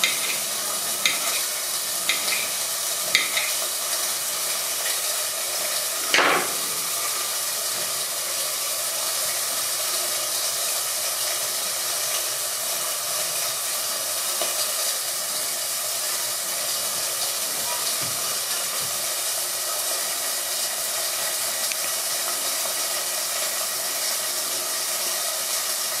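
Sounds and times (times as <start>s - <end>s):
food sizzling in pot: 0.0s - 26.0s.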